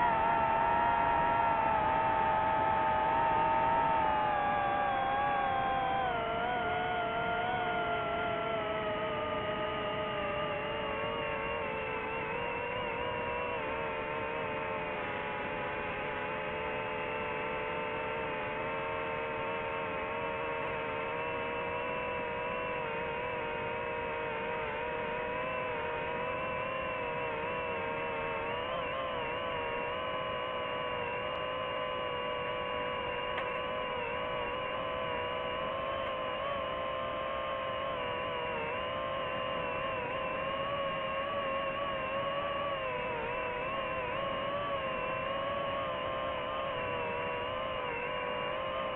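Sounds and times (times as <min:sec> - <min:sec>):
drone propellers whining: 0:00.0 - 0:48.9.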